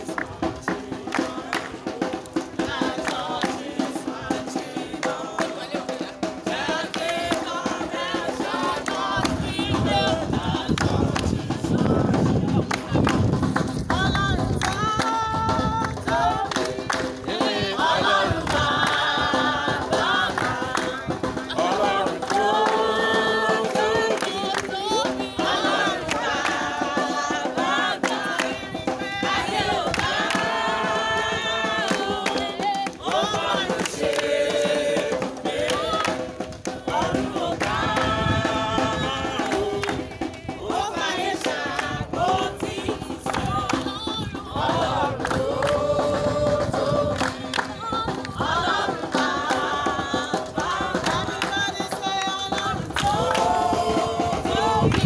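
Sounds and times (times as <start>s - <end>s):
group of voices singing: 0.0s - 55.0s.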